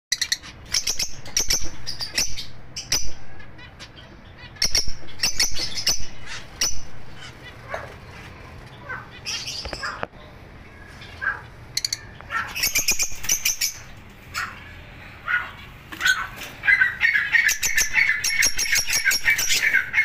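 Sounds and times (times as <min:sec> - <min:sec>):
lovebirds chirping: 0:00.1 - 0:20.0.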